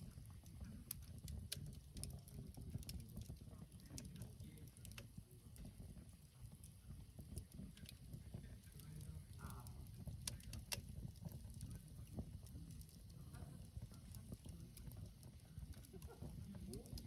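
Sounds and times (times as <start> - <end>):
campfire crackling: 0.0 - 17.0
sharp pops of burning wood: 0.1 - 17.0.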